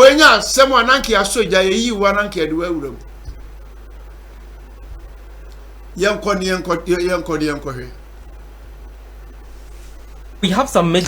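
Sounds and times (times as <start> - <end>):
background hiss: 0.0 - 11.0
low hum: 0.0 - 11.0.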